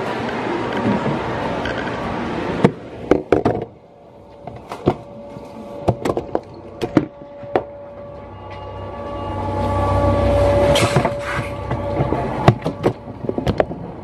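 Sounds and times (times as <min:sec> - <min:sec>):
indoor background noise: 0:00.0 - 0:14.0.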